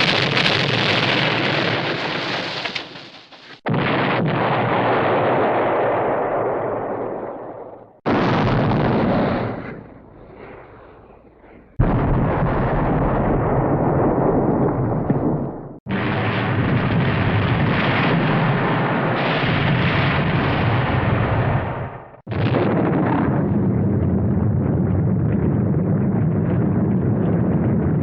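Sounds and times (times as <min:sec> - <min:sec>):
cartoon explosions: 0:00.0 - 0:28.0.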